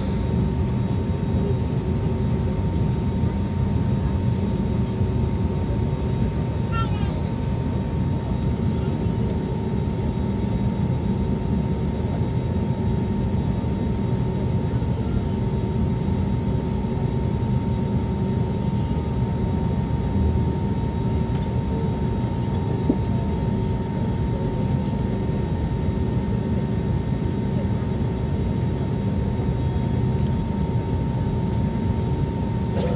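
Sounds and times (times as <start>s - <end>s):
jet engine whine: 0.0s - 32.9s
jet engines rumbling in cabin: 0.0s - 32.9s.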